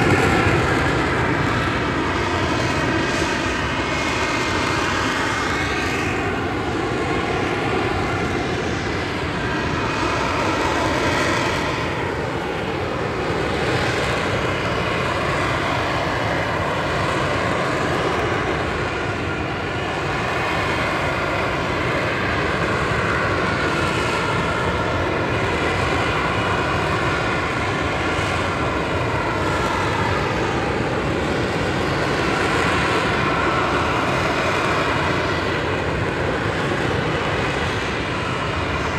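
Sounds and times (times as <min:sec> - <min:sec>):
jet engine hovering roar: 0:00.0 - 0:38.9.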